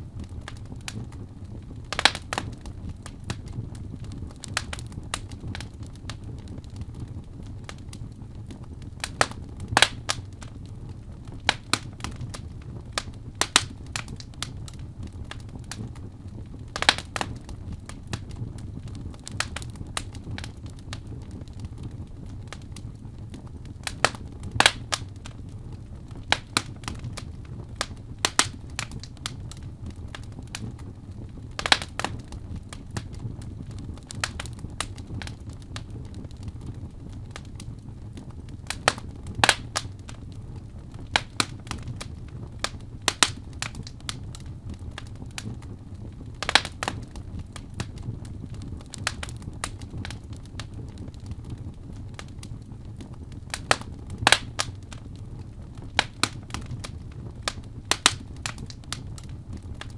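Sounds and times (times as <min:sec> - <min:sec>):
low fire rumble: 0:00.0 - 0:59.9
wood fire crackling and popping: 0:00.0 - 0:59.9.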